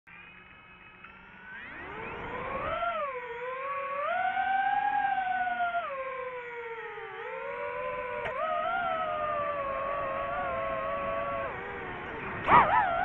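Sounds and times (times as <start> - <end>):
drone motors and propellers whining: 0.1 - 13.0.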